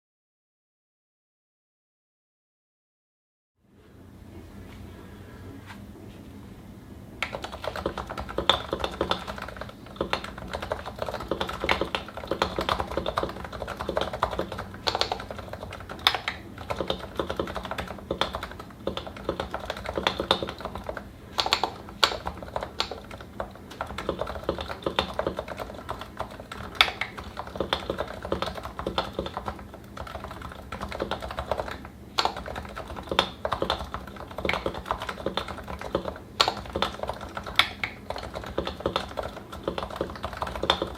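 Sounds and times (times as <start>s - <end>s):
typing on keyboard: 7.2s - 40.9s.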